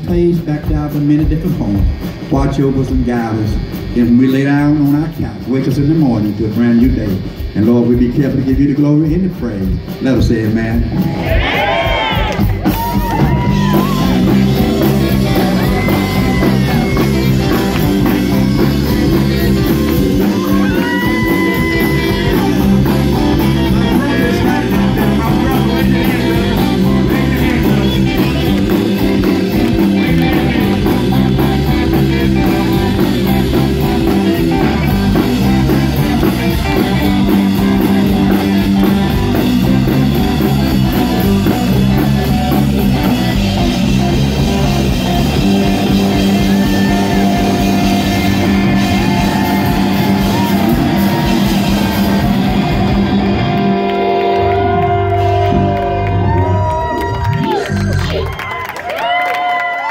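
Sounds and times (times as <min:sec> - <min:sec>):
electric bass: 0:00.0 - 0:59.2
drum kit: 0:00.0 - 0:59.9
electric guitars: 0:00.0 - 0:59.9.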